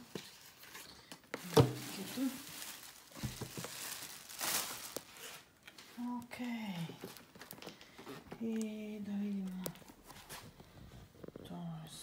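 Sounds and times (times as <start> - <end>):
plastic film crinkling: 0.0 - 11.4.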